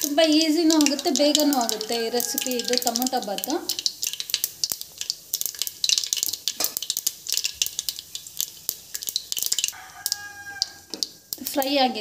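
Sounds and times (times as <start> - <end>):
spices crackling in hot oil: 0.0 - 12.0.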